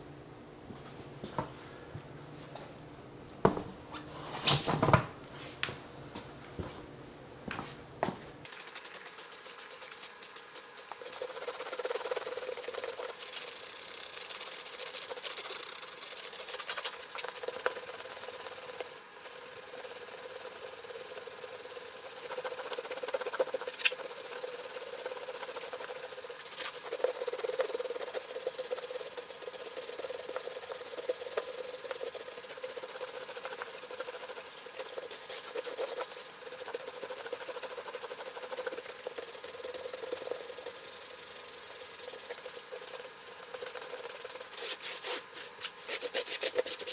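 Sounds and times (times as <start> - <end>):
brush scrubbing a tire: 8.5 - 46.9.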